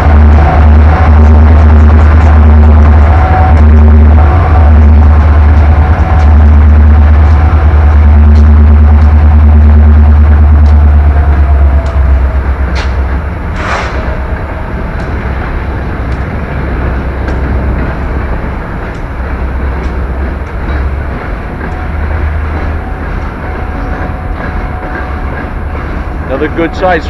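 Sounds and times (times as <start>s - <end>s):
freight train roar: 0.0s - 27.0s
heavy low rumble: 0.0s - 27.0s
train wheels clacking over rail joints: 0.0s - 27.0s.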